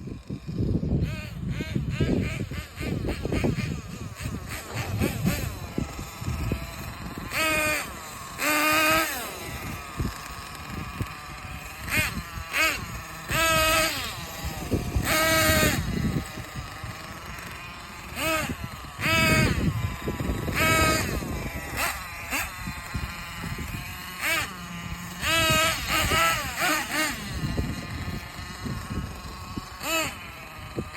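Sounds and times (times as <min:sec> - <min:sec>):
model engine revving whine: 0:00.0 - 0:30.9.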